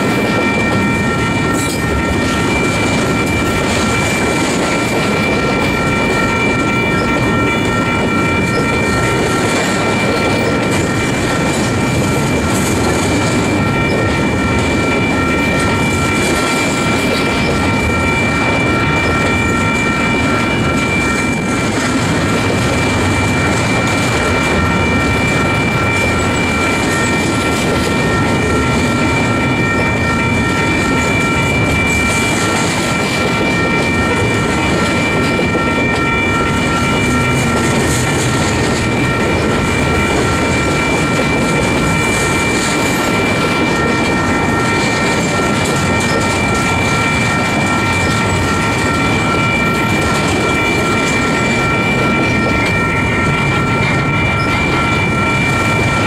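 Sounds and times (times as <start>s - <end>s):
freight train wheels rumbling: 0.0s - 56.0s
high-pitched ringing tone: 0.0s - 56.0s.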